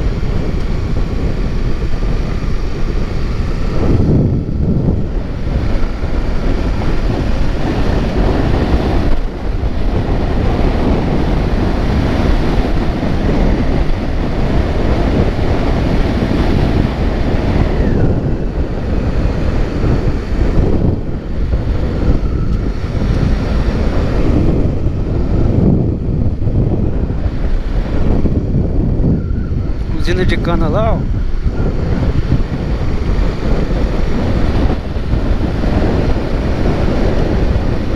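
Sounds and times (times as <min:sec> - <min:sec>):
vehicle running noise: 0:00.0 - 0:37.9
wind rushing over microphone: 0:00.0 - 0:37.9.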